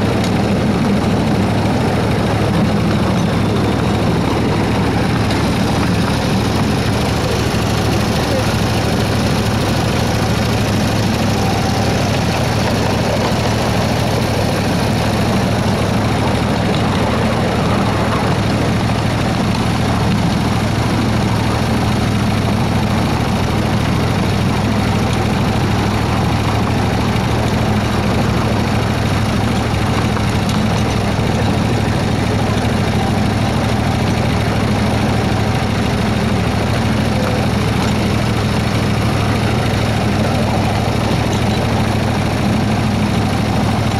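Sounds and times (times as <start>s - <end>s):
miniature locomotive engine running: 0.0s - 43.9s.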